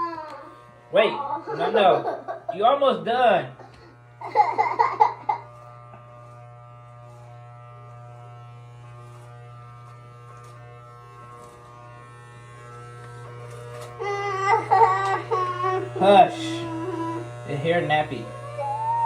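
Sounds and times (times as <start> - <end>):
electric hair clippers buzzing: 0.0 - 19.0.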